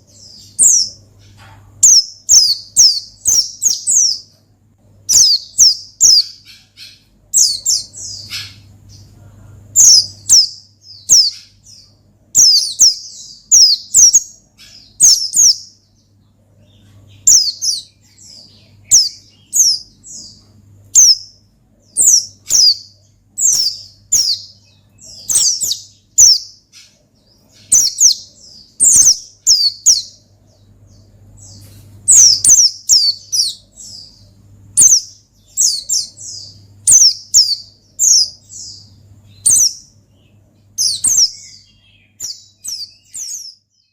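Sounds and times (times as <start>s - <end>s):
bird chirping rapidly: 0.0s - 4.4s, 5.0s - 9.1s, 9.7s - 43.9s
faint low hum: 0.0s - 43.9s.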